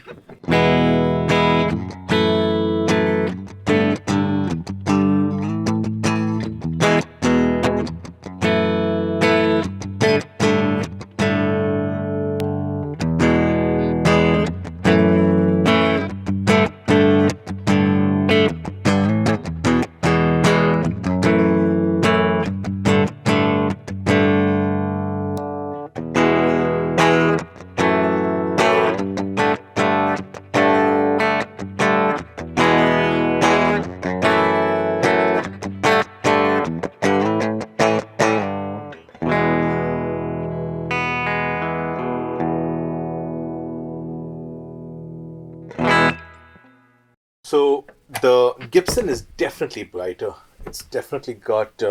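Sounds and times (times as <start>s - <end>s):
clean electric guitar chords: 0.4s - 47.1s.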